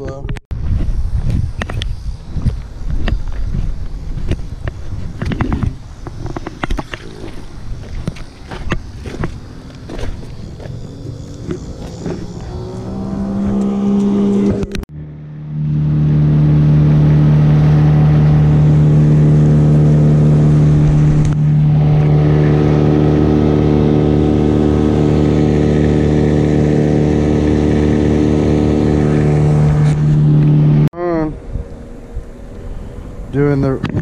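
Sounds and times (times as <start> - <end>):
boat motor droning: 5.6 - 33.8.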